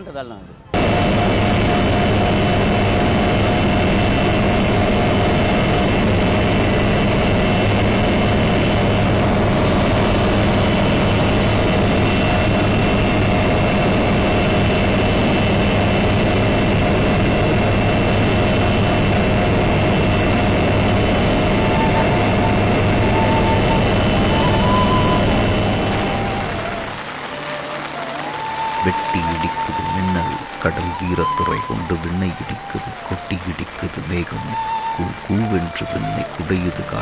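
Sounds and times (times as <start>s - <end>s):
loud machine hum: 0.7s - 37.0s.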